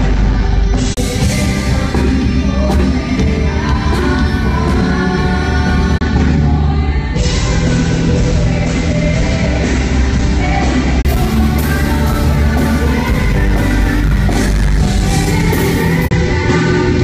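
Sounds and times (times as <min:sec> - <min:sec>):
rock band playing: 0:00.0 - 0:17.0
women singing: 0:01.0 - 0:17.0.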